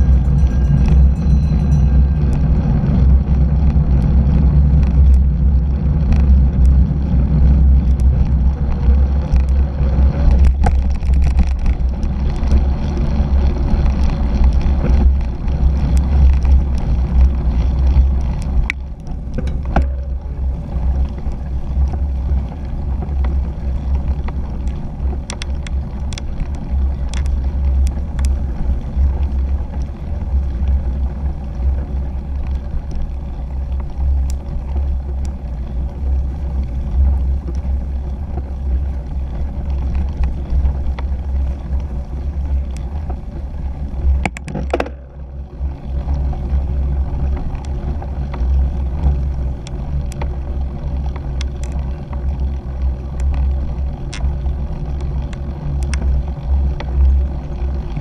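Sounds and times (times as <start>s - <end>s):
wind buffeting: 0.0s - 51.7s
bike clicks and knocks: 0.0s - 58.0s
road rumble: 0.0s - 58.0s.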